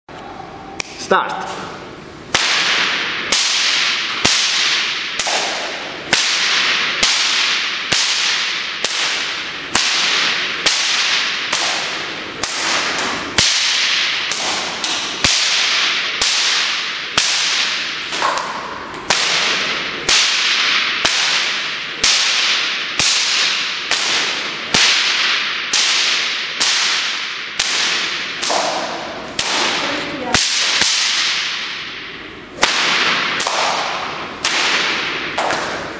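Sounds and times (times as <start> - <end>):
whip cracks echoing: 0.8 - 35.9.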